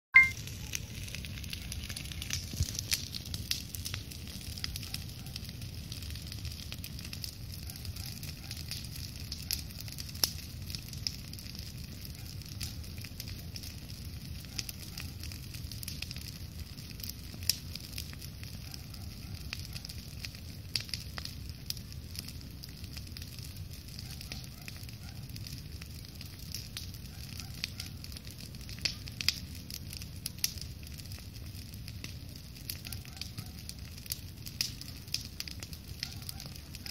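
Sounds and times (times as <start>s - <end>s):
campfire crackling and popping: 0.2s - 36.9s
low rush of fire: 0.4s - 36.9s.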